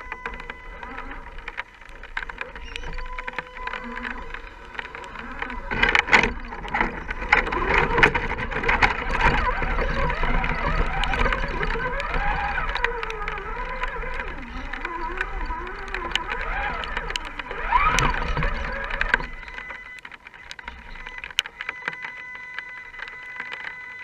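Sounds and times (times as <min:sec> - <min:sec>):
clicks and knocks: 0:00.0 - 0:24.0
electric motor whining: 0:00.0 - 0:24.0.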